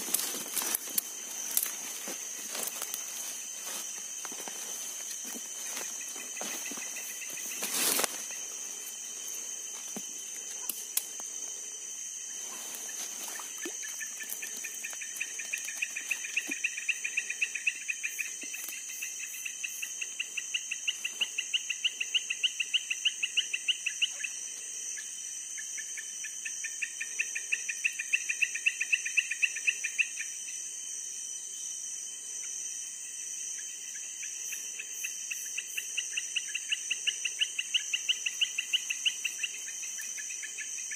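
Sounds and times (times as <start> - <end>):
insect chorus shrill drone: 0.0 - 40.9
rhythmic insect chirps: 0.0 - 40.9.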